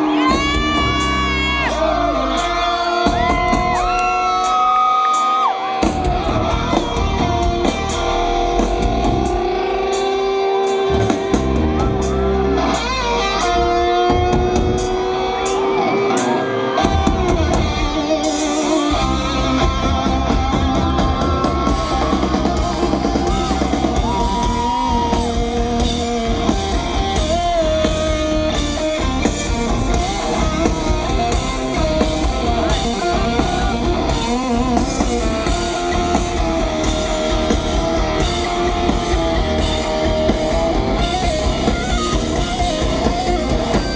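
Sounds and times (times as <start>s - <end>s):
electric guitar: 0.0s - 43.9s
rock band playing: 0.0s - 43.9s.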